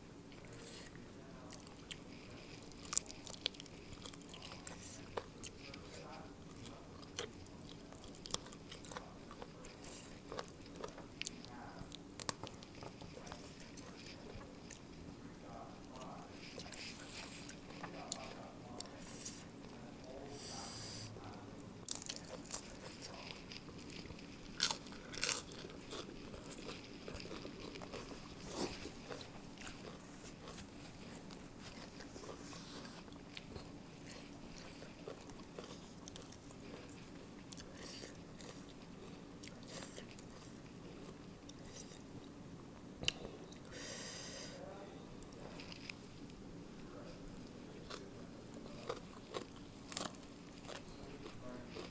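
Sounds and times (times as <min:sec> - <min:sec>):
person chewing and crunching: 0:00.3 - 0:20.2, 0:21.8 - 0:43.7, 0:45.2 - 0:46.4, 0:47.0 - 0:51.9.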